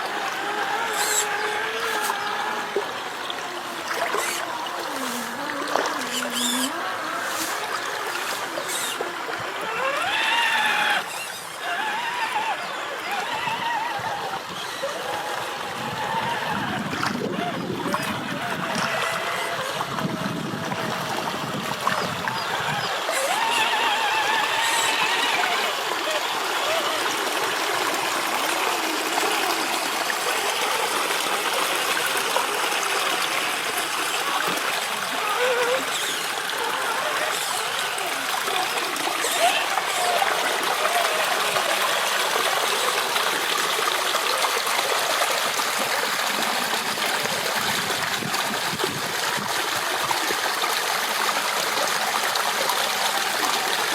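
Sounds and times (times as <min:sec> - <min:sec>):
river water flowing and splashing: 0:00.0 - 0:53.9.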